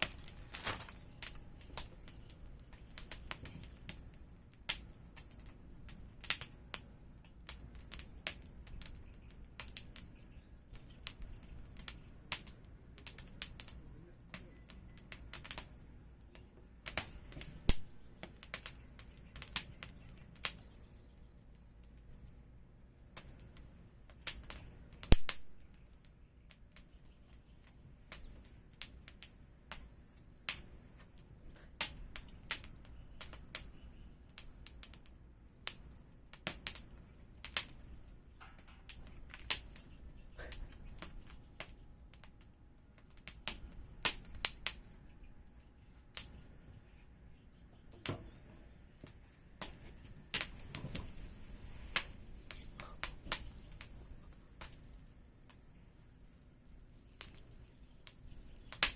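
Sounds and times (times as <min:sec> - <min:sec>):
sharp pops and snaps: 0:00.0 - 0:22.4, 0:23.1 - 0:44.9, 0:45.5 - 0:46.5, 0:49.0 - 0:55.7, 0:57.1 - 0:58.9
firewood crackling: 0:00.0 - 0:58.9.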